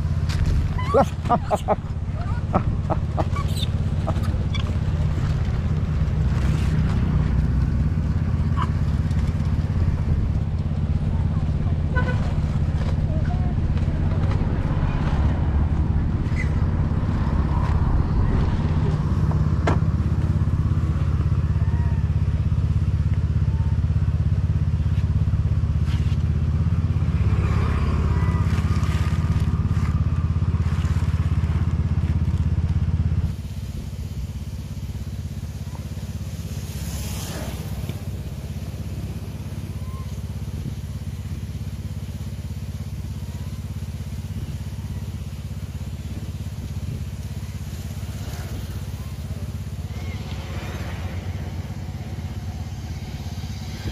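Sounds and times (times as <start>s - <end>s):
motor scooter engine running: 0.0s - 53.9s.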